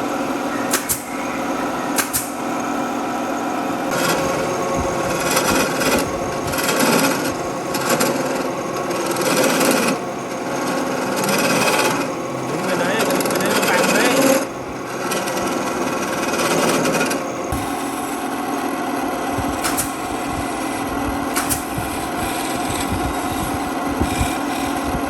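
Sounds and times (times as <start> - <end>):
power tool cutting wood: 0.7 - 25.0.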